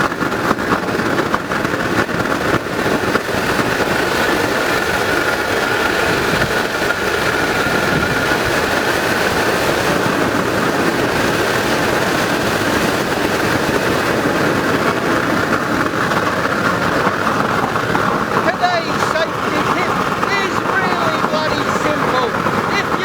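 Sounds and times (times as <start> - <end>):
oil burner roaring: 0.0 - 23.0.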